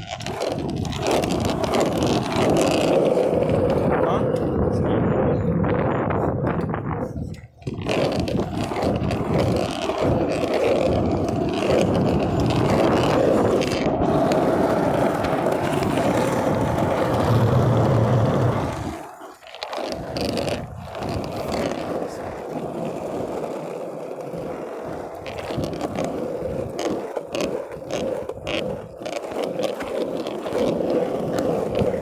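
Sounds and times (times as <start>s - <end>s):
skateboard wheels rolling on pavement: 0.0s - 32.0s.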